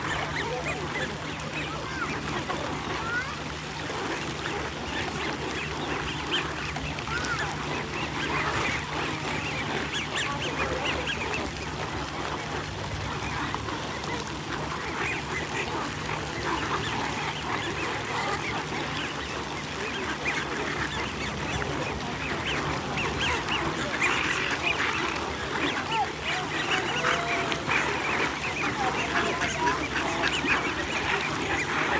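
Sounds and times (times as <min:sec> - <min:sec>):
ducks or geese calling: 0:00.0 - 0:31.9
low steady hum: 0:00.0 - 0:31.9.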